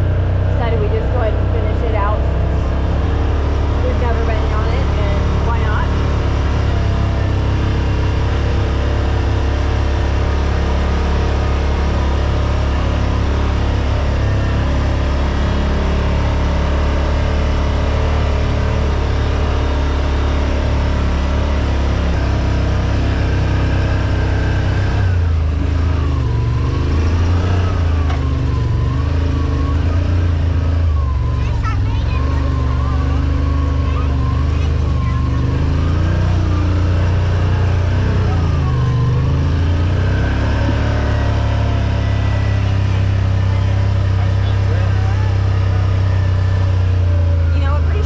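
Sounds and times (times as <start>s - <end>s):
utility vehicle engine droning: 0.0s - 48.0s.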